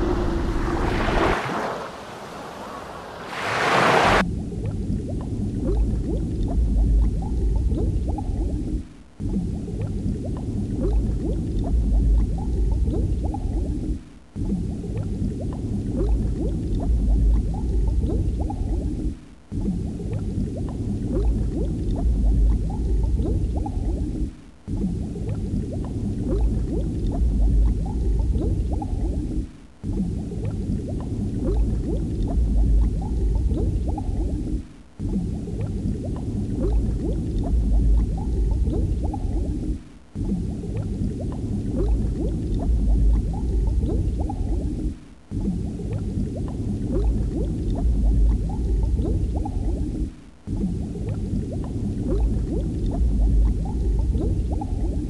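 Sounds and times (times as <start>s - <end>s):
muffled bubbling water: 0.0s - 55.0s.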